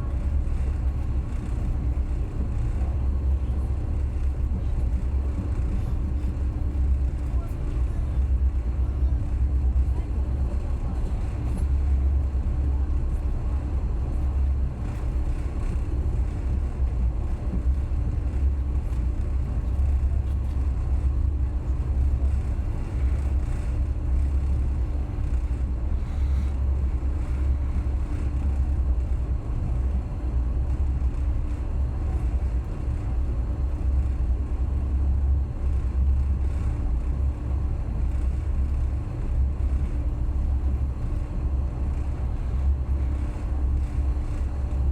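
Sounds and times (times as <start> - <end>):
faint constant hum: 0.0 - 44.9
train carriage rumbling on track: 0.0 - 44.9.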